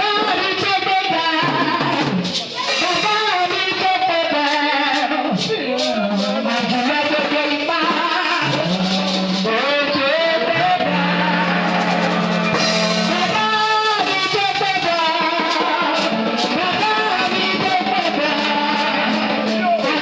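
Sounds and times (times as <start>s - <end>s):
band with drums and guitar: 0.0s - 20.0s
person singing: 0.0s - 20.0s.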